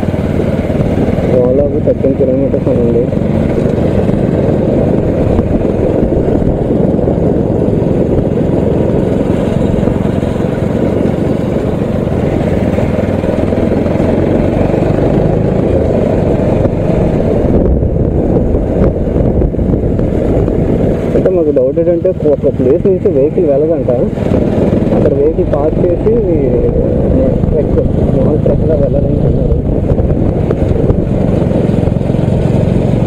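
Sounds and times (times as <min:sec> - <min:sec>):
motorcycle engine rumble: 0:00.0 - 0:33.0
wind rush on microphone: 0:00.0 - 0:33.0.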